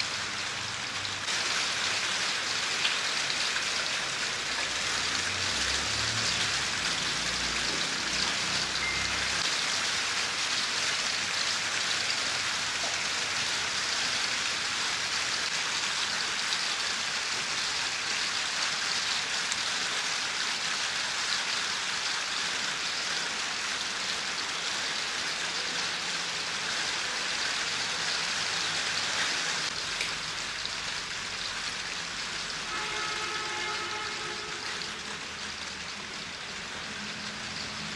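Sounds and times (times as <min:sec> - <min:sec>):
steady hiss like rain: 0:00.0 - 0:37.9.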